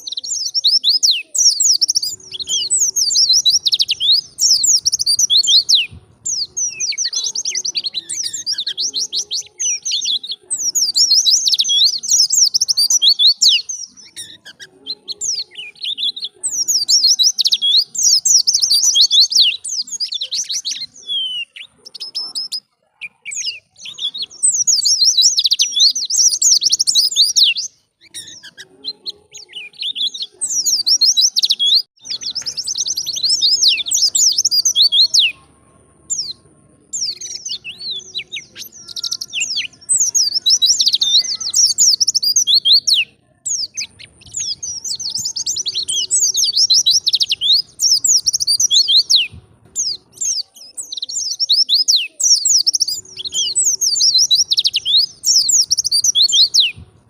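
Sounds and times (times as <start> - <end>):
bird twittering: 0.0 - 56.8.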